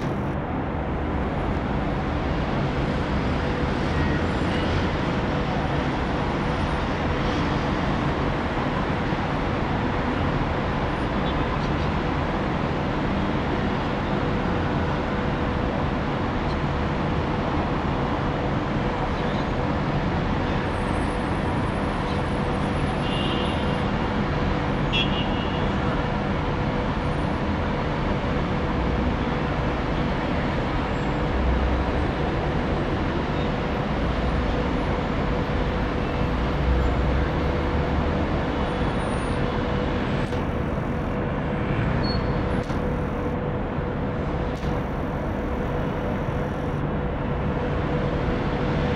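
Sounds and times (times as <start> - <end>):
road traffic noise: 0.0 - 48.9.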